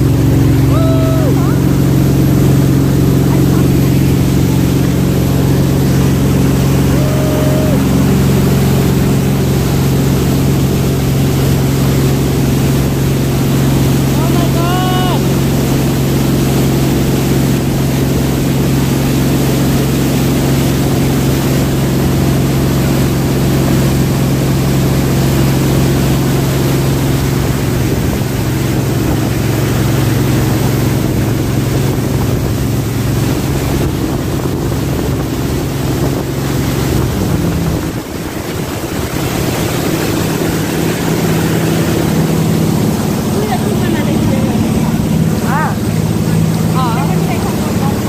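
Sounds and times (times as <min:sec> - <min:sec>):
jet boat engine running: 0:00.0 - 0:48.0
water rushing: 0:00.0 - 0:48.0
wind: 0:00.0 - 0:48.0.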